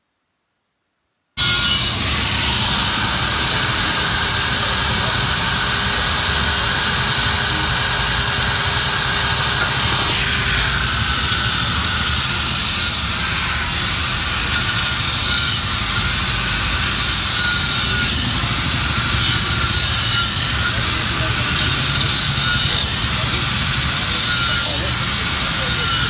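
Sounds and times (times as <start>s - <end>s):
angle grinder on metal wheel: 1.4s - 26.0s.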